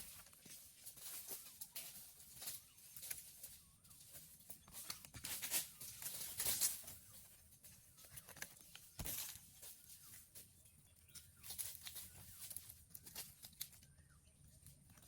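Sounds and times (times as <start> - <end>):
goats chewing vegetation: 0.0 - 15.0.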